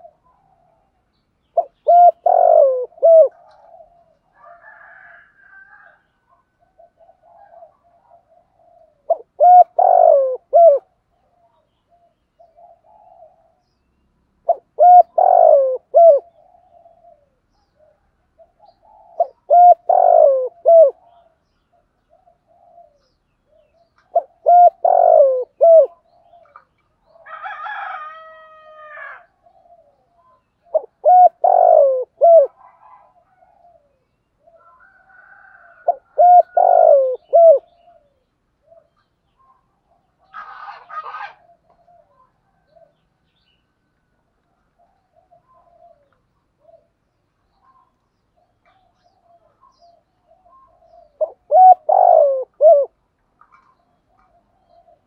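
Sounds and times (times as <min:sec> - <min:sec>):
dove cooing: 0:00.0 - 0:13.7, 0:14.4 - 0:43.2, 0:44.6 - 0:55.0
faint different bird call: 0:00.0 - 0:55.0.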